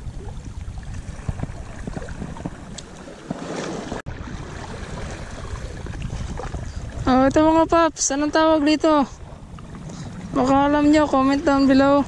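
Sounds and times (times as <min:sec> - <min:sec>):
sea water washing over rocks: 0:00.0 - 0:12.0
wind buffeting microphone: 0:00.0 - 0:12.0.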